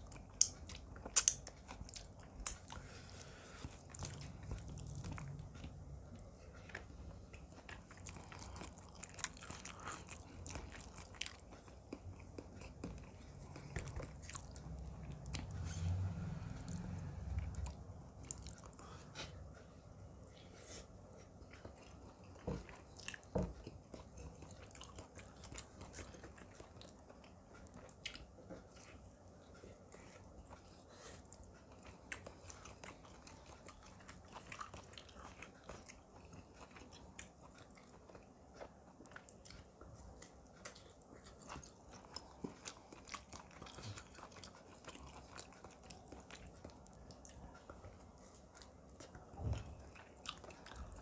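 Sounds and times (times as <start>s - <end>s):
close chewing with mouth smacks: 0.0s - 19.7s, 20.3s - 51.0s.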